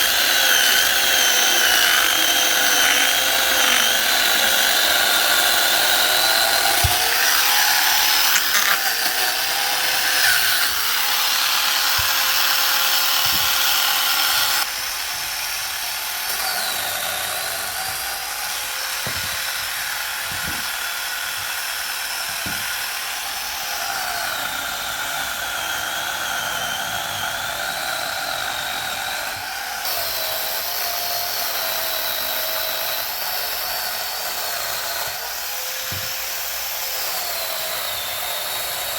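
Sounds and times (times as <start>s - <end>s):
motorised saw cutting wood: 0.0s - 38.9s.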